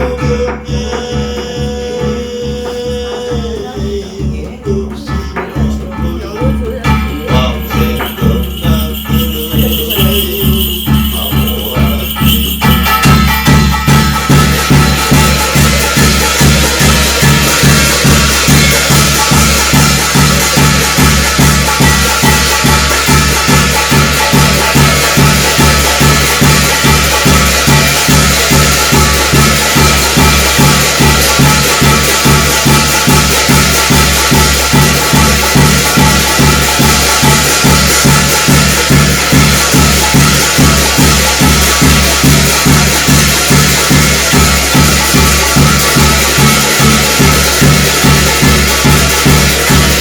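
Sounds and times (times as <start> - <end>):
clashing cymbals: 0.0 - 50.0
drum beating: 0.0 - 50.0.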